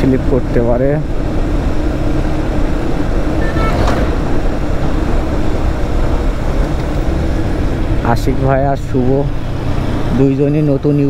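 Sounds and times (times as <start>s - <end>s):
motorcycle engine drone: 0.0s - 11.0s
wind rushing over microphone: 1.0s - 10.2s.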